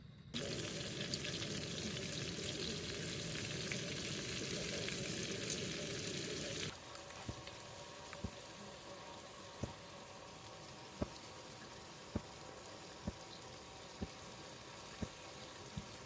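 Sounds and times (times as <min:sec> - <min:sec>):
food sizzling in a hot pan: 0:00.4 - 0:16.0.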